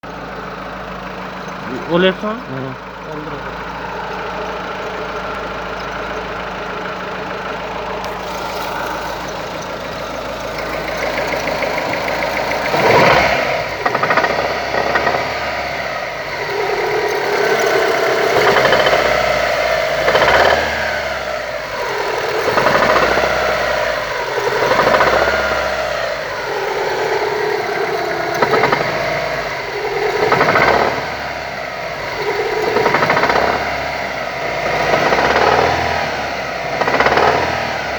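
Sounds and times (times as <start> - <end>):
car engine idling and revving: 0.0 - 37.9
engine knock: 0.0 - 37.9.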